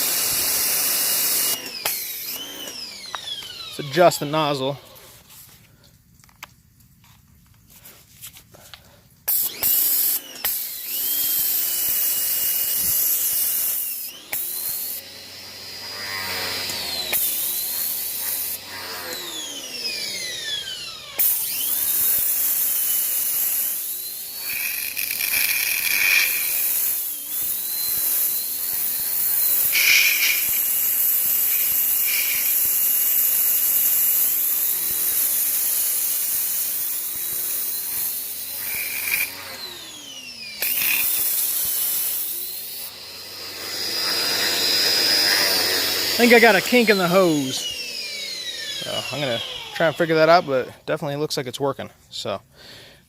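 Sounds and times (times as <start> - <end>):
pressure washer motor whining: 0.0 - 5.4, 9.3 - 50.8.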